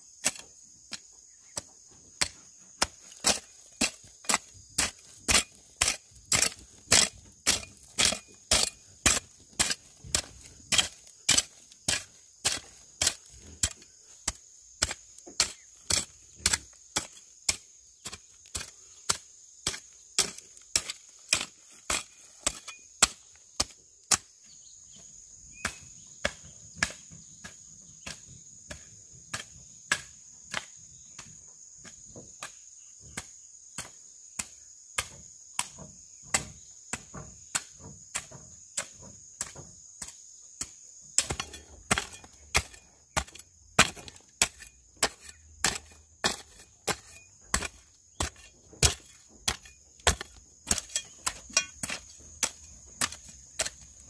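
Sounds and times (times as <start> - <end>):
high insect drone: 0.0 - 54.0
metal hoe chopping stony soil: 0.1 - 54.0.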